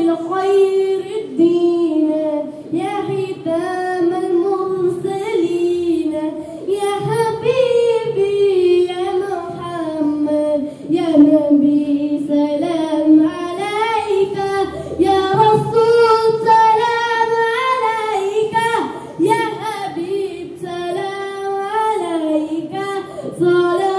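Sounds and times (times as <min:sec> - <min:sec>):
boy singing devotional song: 0:00.0 - 0:23.9.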